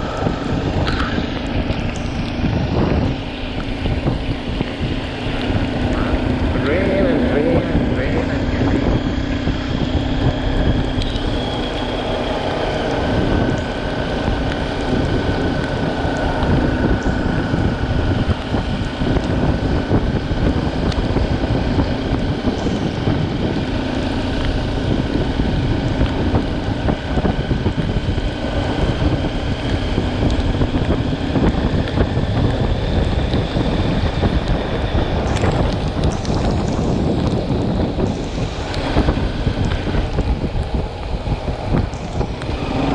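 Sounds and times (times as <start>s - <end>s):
motorcycle engine running: 0.0s - 42.9s
wind buffeting microphone: 0.0s - 42.9s.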